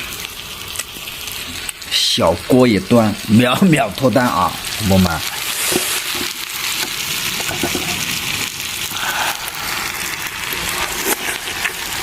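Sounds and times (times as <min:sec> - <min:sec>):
peas sizzling in a pot: 0:00.0 - 0:12.0.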